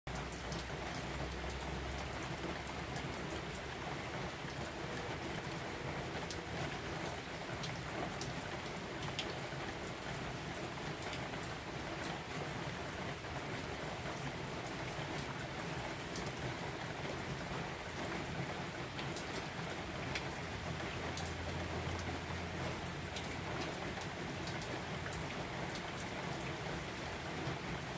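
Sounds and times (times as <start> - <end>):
steady rain falling: 0.1 - 27.9.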